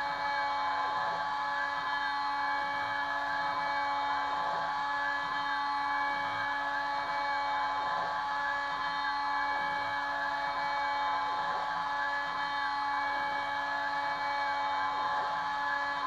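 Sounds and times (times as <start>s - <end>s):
router spindle high whine: 0.0s - 16.0s.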